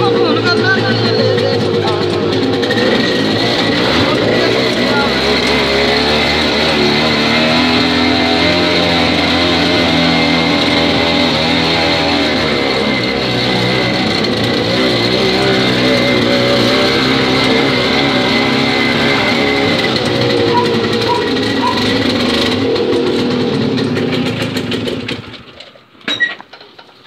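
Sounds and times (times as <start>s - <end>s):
small vehicle engine revving: 0.0s - 25.6s.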